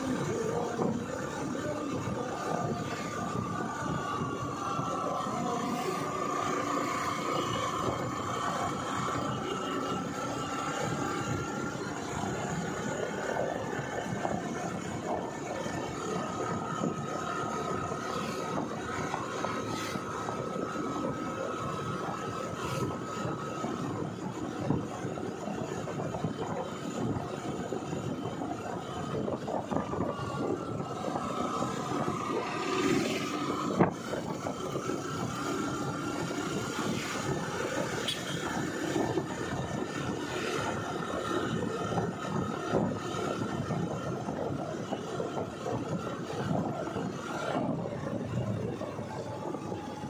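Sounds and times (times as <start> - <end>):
engine hum: 0.0 - 50.0
wind and road noise: 0.0 - 50.0.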